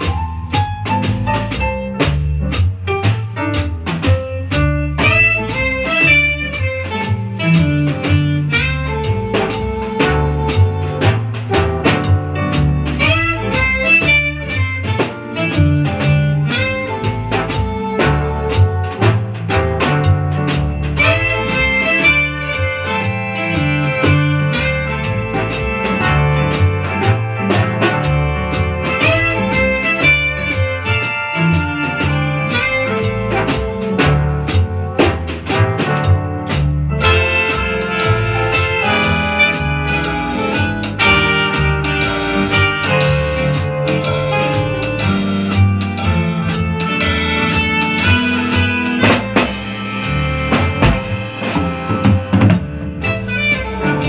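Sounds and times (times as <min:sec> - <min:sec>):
backing track of pitched instruments: 0:04.5 - 0:54.0.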